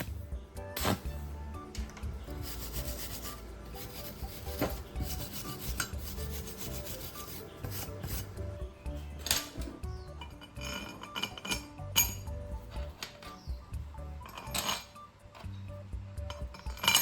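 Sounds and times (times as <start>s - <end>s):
quiet background music: 0.0s - 17.0s
scraping on metal: 1.8s - 13.5s, 14.2s - 15.5s, 16.3s - 17.0s.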